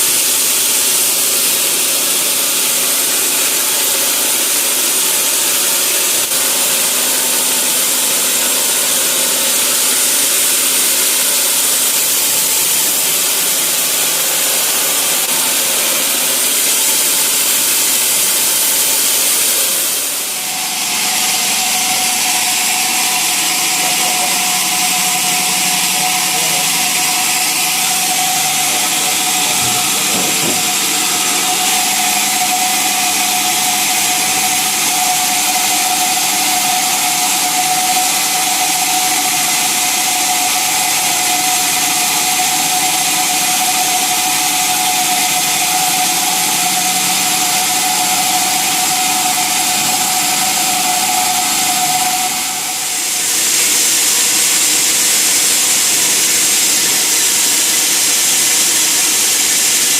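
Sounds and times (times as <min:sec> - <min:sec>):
machinery whine: 0:00.0 - 0:59.9
sawmill saw hissing: 0:00.0 - 0:59.9.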